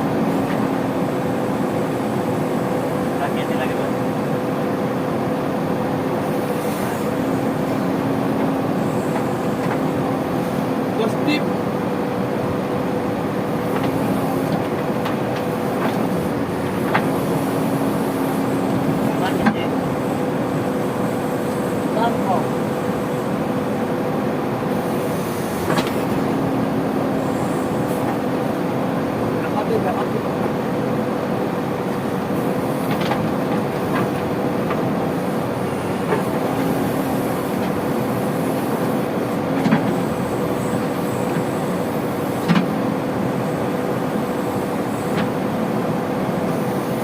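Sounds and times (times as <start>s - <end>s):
diesel engine running under load: 0.0s - 47.0s.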